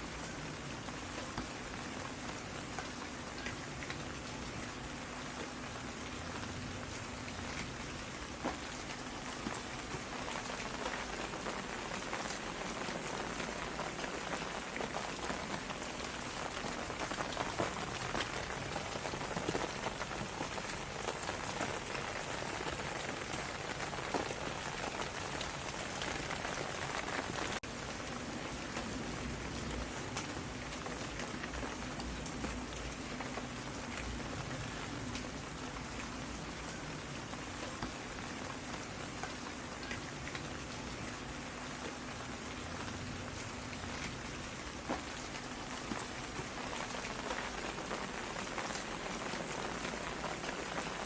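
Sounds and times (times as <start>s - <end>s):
rain drops hitting a surface: 0.0s - 51.0s.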